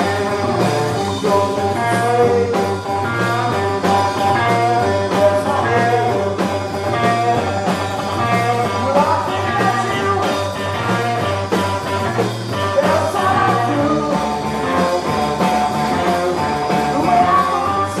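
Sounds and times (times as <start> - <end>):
bass guitar: 0.0 - 18.0
drum beat: 0.0 - 18.0
electric guitar: 0.0 - 18.0.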